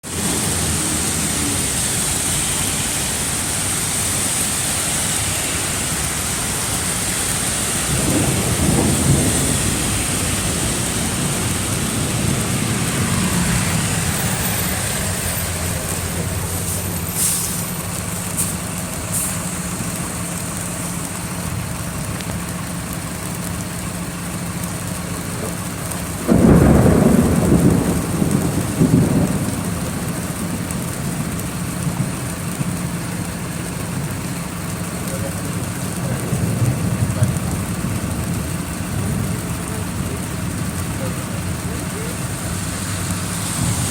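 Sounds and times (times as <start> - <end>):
heavy rain pouring: 0.0 - 43.9
low rumble: 5.4 - 43.9.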